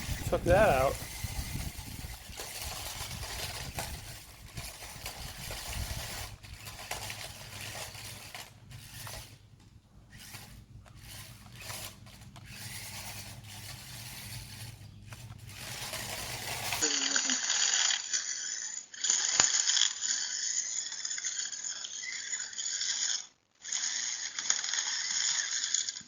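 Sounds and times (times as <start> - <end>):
rc car motors whirring and clattering: 0.0 - 26.0.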